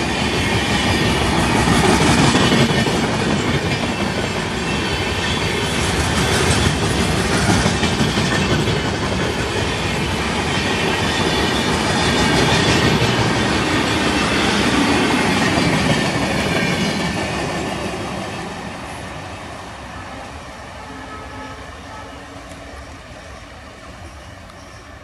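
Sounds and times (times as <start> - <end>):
passenger train running: 0.0 - 25.0.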